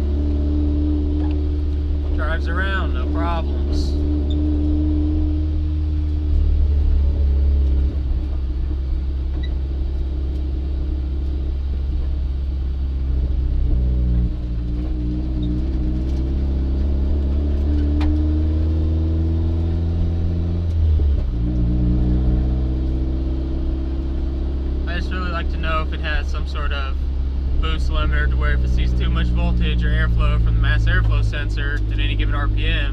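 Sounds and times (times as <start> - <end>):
car engine cruising drone: 0.0 - 32.9
road rumble: 0.0 - 32.9.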